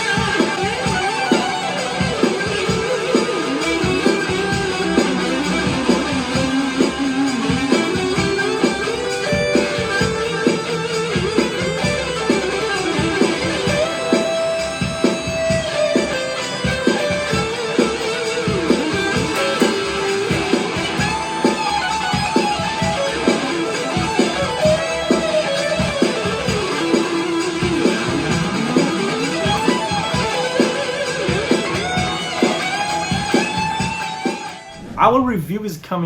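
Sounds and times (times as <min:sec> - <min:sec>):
overdriven electric guitar lead: 0:00.0 - 0:34.9.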